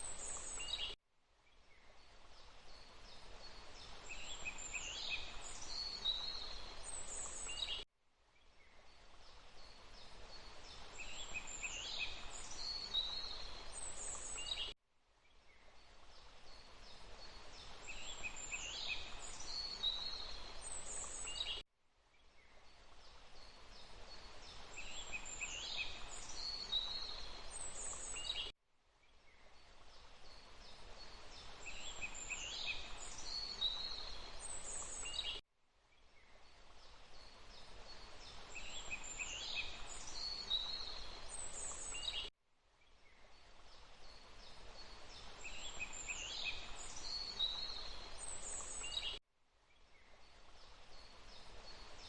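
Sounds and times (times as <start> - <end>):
steady background hiss: 0.0 - 0.9, 1.7 - 7.8, 8.6 - 14.7, 15.5 - 21.6, 22.4 - 28.5, 29.2 - 35.4, 36.2 - 42.3, 43.0 - 49.2.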